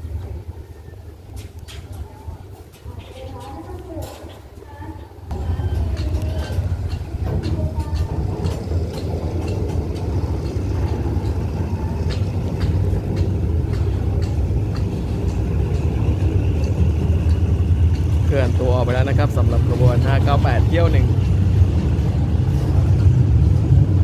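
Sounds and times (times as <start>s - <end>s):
freight train rumbling: 0.0s - 24.0s
wheels and couplings clanking: 0.0s - 24.0s.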